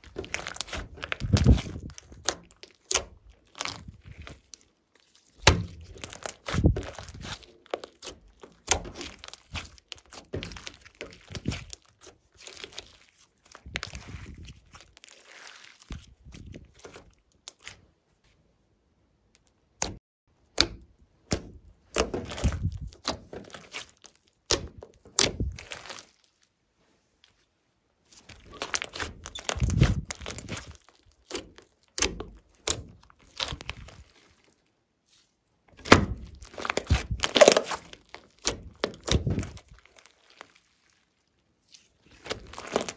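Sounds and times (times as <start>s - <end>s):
slime squished by hand: 0.0s - 17.9s, 19.3s - 26.5s, 28.1s - 42.9s.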